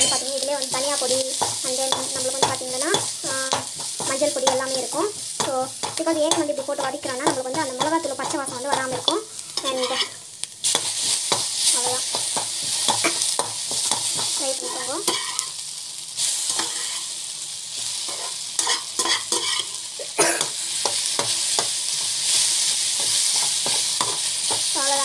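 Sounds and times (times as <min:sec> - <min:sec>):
spatula scraping a pan: 0:00.0 - 0:15.6, 0:16.2 - 0:17.2, 0:17.8 - 0:25.0
okra sizzling in oil: 0:00.0 - 0:25.0.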